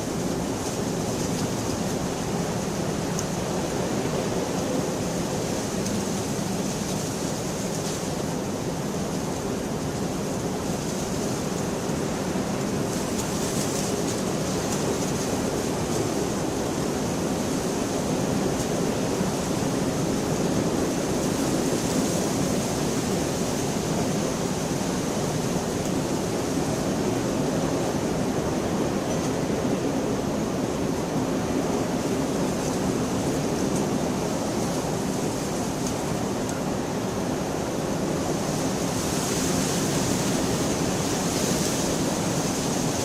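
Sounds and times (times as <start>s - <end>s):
steady rain hiss: 0.0s - 43.0s.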